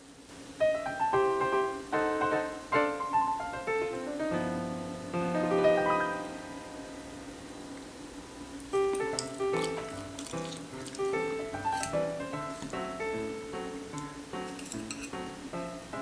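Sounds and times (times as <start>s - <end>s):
piano melody: 0.6s - 16.0s.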